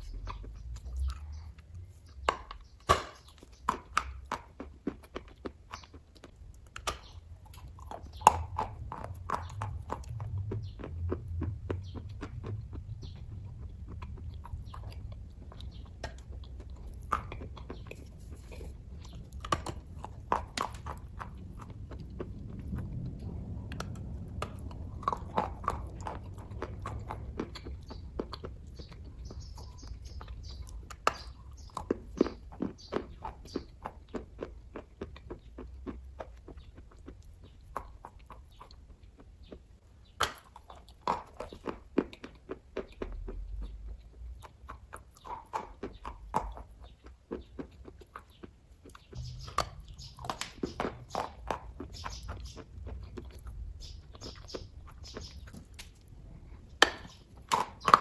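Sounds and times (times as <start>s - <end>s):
person chewing with wet clicks: 0.0s - 58.0s.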